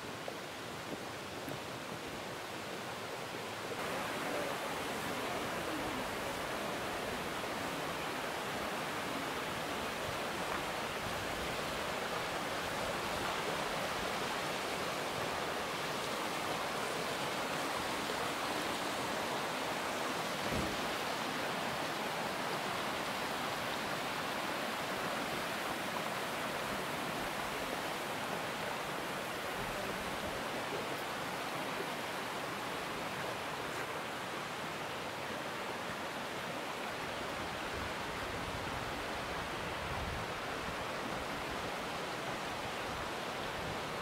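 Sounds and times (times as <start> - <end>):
stream flowing over rocks: 0.0 - 44.0.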